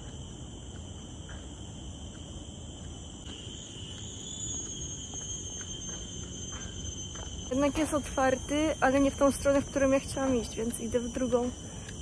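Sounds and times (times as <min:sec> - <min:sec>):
insects calling in chorus: 0:00.0 - 0:12.0.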